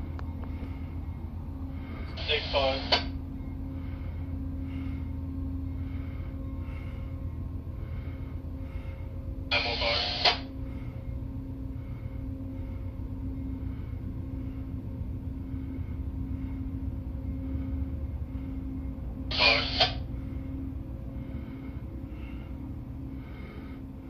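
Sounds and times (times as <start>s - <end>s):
diesel train rumbling: 0.0s - 24.0s
steady hum: 0.0s - 24.0s.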